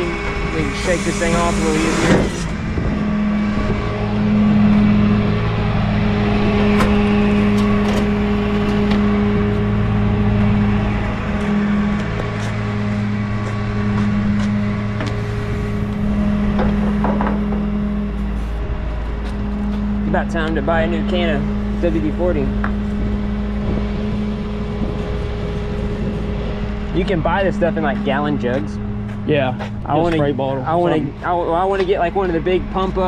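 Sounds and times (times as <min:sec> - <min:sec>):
truck engine idling: 0:00.0 - 0:33.0.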